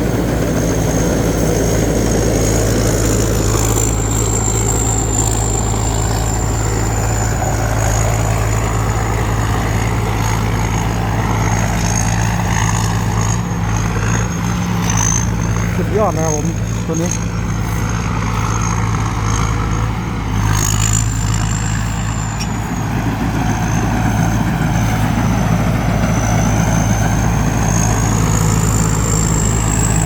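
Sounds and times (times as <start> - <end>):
combine harvester engine hum: 0.0 - 30.0
steady high whine: 0.0 - 30.0.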